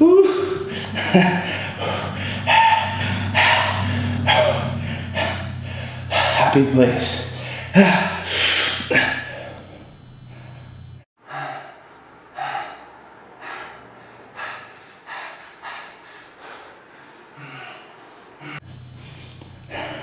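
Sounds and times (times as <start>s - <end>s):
man breathing hard: 0.0s - 20.0s.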